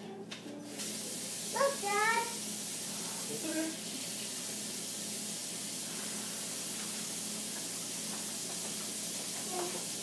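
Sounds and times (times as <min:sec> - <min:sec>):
steady hiss: 0:00.7 - 0:10.0.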